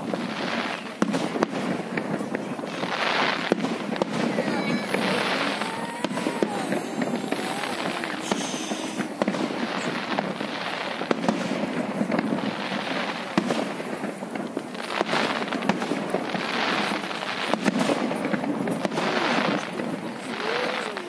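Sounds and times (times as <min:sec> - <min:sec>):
firework crackling: 0:00.0 - 0:21.0
firework shells bursting: 0:00.0 - 0:21.0.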